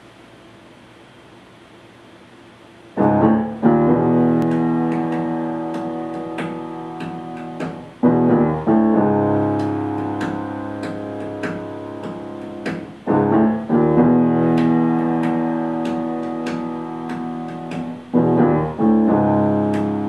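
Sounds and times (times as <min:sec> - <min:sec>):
piano chords ringing: 0:02.9 - 0:20.0.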